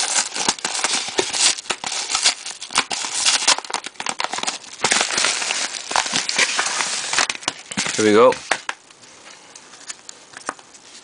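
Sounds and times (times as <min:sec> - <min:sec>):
padded envelope crinkling: 0:00.0 - 0:08.9.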